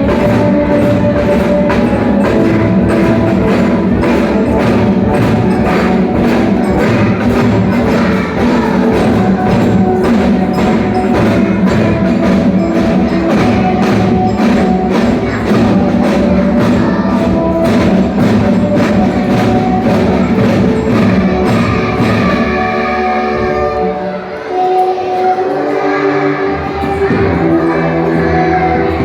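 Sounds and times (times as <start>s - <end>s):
drums beating fast: 0.0s - 24.0s, 26.5s - 29.0s.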